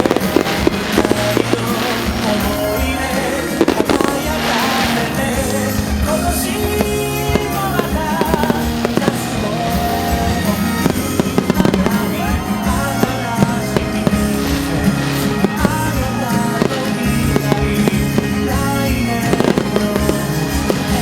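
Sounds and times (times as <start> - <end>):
fireworks bursting and banging: 0.0 - 21.0
song with singing: 0.0 - 21.0.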